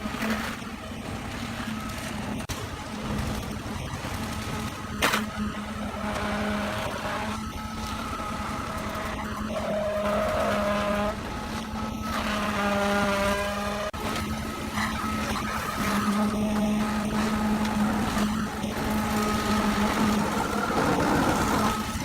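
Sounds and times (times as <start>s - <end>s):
construction machinery motor humming: 0.0s - 22.0s.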